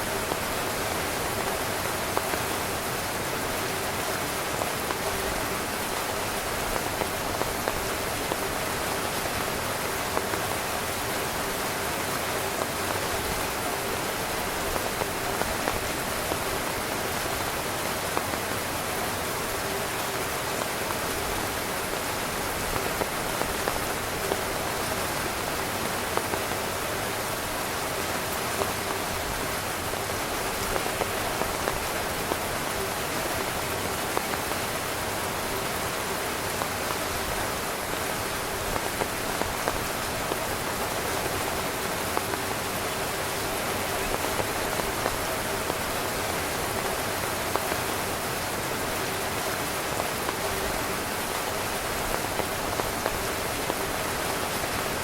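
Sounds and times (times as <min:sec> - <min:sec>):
heavy rain on a tent: 0:00.0 - 0:55.0
raindrops tapping on fabric: 0:00.0 - 0:55.0.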